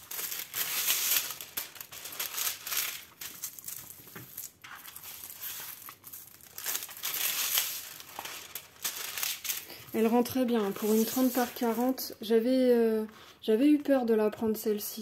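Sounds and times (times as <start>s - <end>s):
plastic film crinkling: 0.0s - 12.2s.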